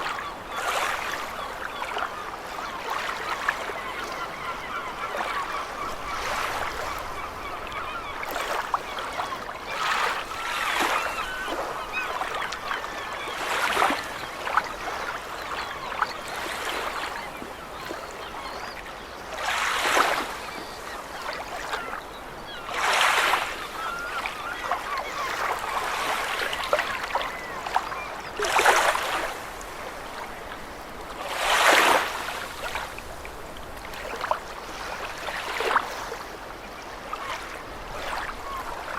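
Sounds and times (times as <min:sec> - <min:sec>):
seagulls calling: 0:00.0 - 0:33.2, 0:37.0 - 0:38.9
waves surging and breaking: 0:00.0 - 0:38.9.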